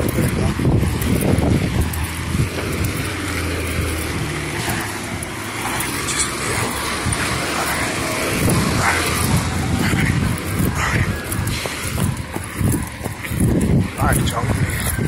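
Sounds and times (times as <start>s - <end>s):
road and traffic noise: 0.0s - 15.0s
vehicle engine running: 0.0s - 15.0s.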